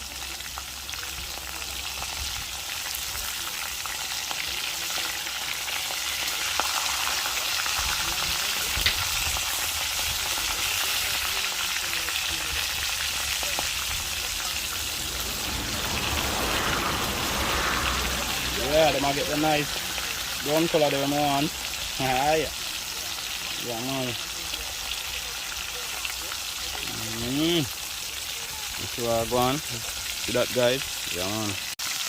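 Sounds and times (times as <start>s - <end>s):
meat sizzling in hot oil: 0.0s - 32.0s.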